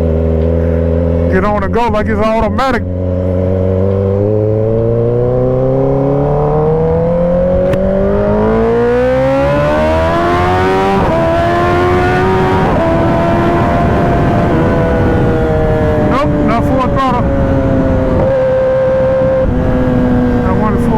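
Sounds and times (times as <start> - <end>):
motorcycle engine accelerating: 0.0 - 20.9.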